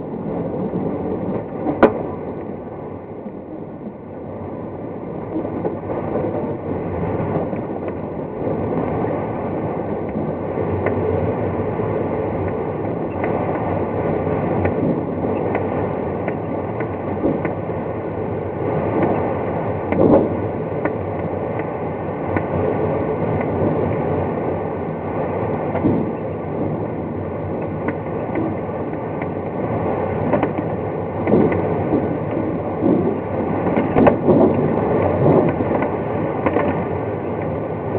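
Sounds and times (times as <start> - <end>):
air rushing around glider cockpit: 0.0 - 37.9.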